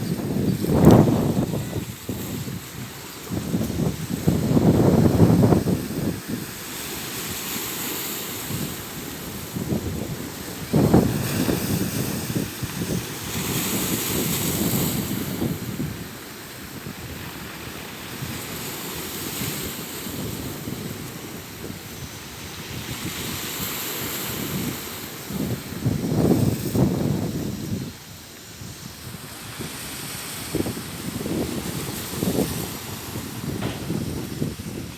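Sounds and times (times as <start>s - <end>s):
surf washing on shore: 0.0s - 34.9s
wind buffeting microphone: 0.0s - 34.9s.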